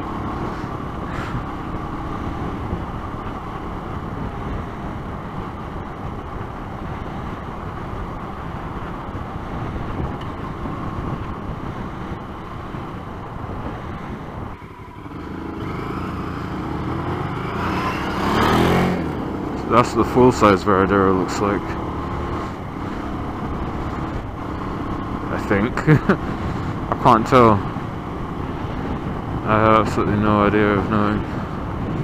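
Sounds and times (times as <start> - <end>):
motorcycle engine: 0.0 - 32.0
wind noise: 0.0 - 32.0.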